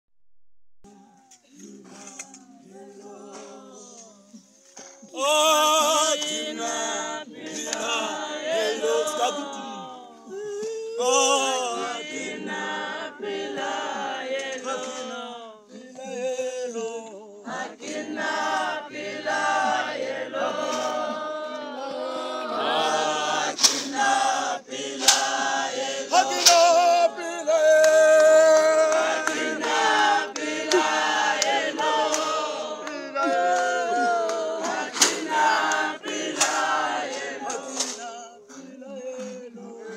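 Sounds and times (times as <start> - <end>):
congregation singing a hymn: 0.9 - 39.9.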